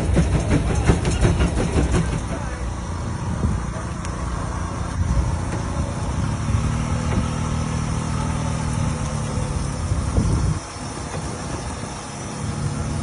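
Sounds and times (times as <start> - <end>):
large engine rumbling: 0.0 - 13.0.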